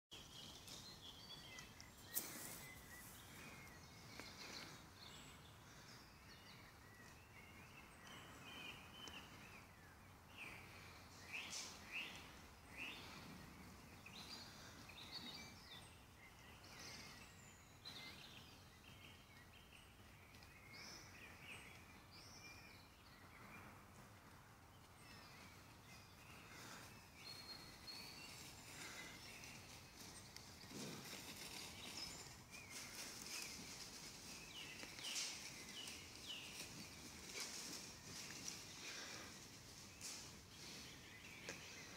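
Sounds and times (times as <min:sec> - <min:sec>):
small birds chirping and trilling: 0:00.1 - 0:41.9.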